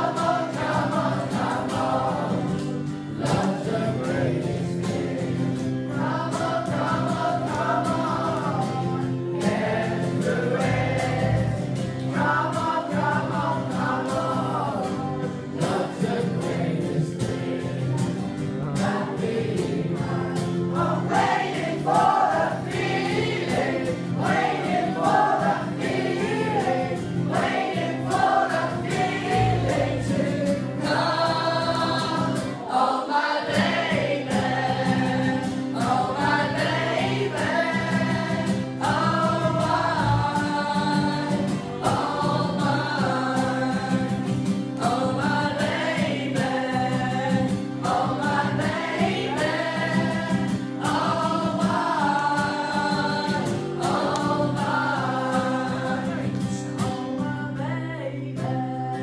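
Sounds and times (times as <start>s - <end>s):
acoustic guitar: 0.0s - 59.0s
group of young voices singing: 0.0s - 59.0s.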